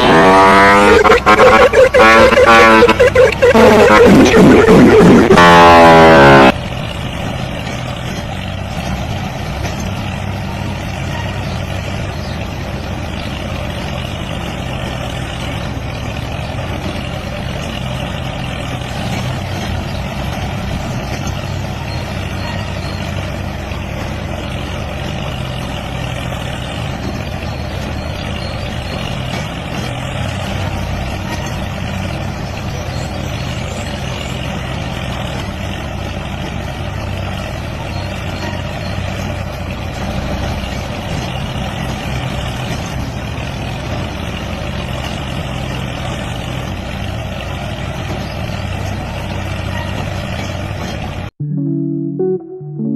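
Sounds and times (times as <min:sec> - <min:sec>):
small tractor engine running: 0:00.0 - 0:51.3.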